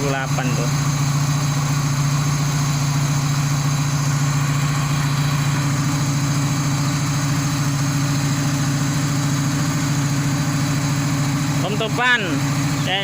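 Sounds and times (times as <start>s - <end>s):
car engine idling: 0.0s - 13.0s
compressor low hum: 0.0s - 13.0s.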